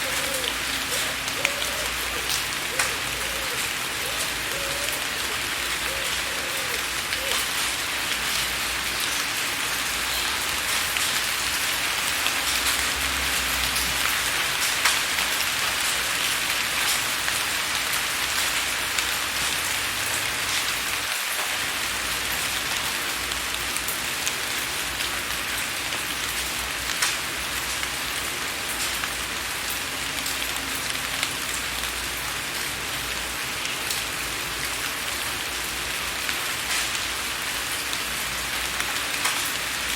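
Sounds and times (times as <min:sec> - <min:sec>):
rain hissing on window glass: 0:00.0 - 0:39.9.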